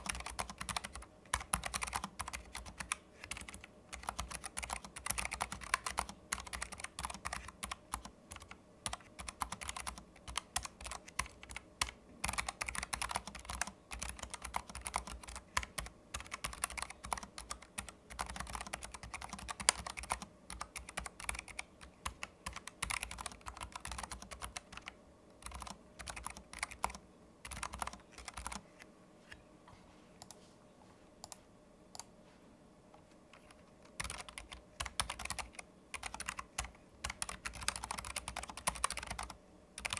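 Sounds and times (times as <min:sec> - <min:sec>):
keyboard typing clicks: 0:00.0 - 0:28.9, 0:33.3 - 0:39.9.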